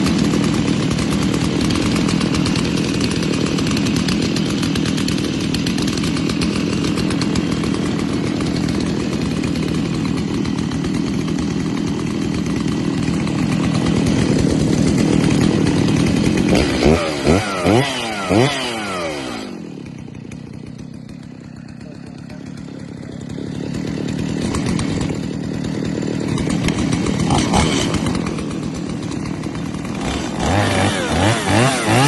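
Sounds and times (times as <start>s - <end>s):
chainsaws idling: 0.0s - 32.0s.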